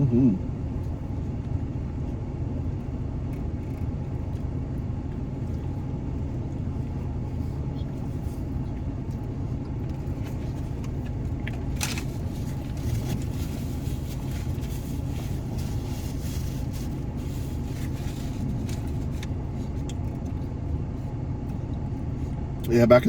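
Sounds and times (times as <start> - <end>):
low hum: 0.0 - 22.7
person eating with rustles: 0.6 - 22.6.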